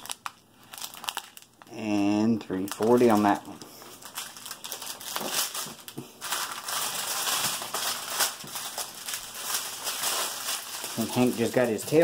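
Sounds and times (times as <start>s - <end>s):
plastic baggies crinkling: 0.0s - 12.0s.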